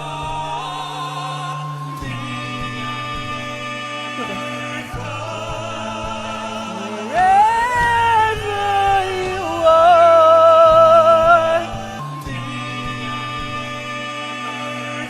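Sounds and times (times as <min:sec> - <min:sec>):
person singing: 0:00.0 - 0:15.0
sustained backing accompaniment: 0:00.0 - 0:15.0.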